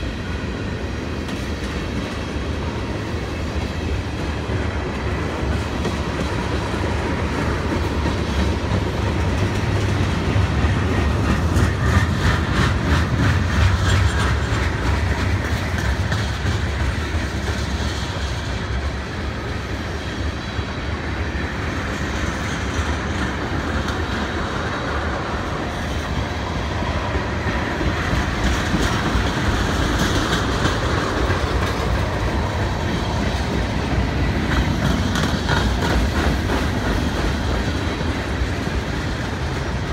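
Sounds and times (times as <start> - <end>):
freight train rumbling past: 0.0 - 39.9
wheels clacking over rail joints: 1.0 - 39.9.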